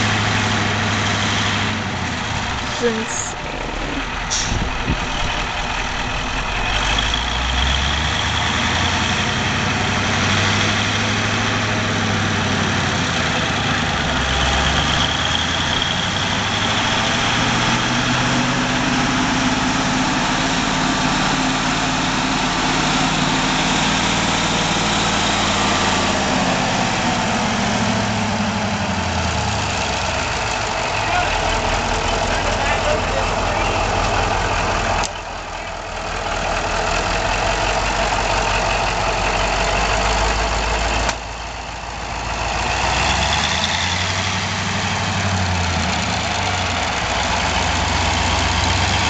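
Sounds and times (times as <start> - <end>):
wheel loader engine running: 0.0 - 49.0.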